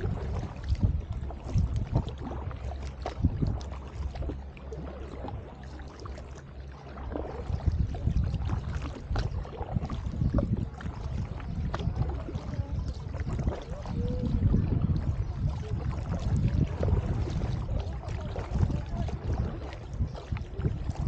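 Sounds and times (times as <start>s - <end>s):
paddle splashing through water: 0.0s - 21.0s
steady low rumble: 0.0s - 21.0s.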